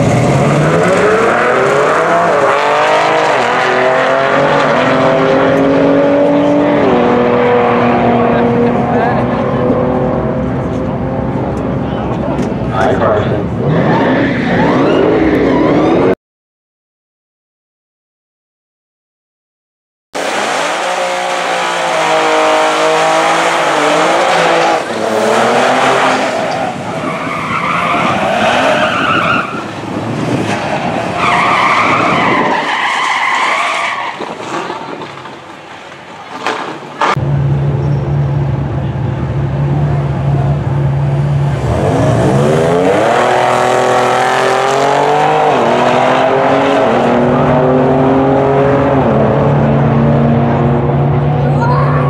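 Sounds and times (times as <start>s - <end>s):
car engines revving and accelerating: 0.0s - 16.2s, 20.2s - 35.3s, 37.0s - 52.0s.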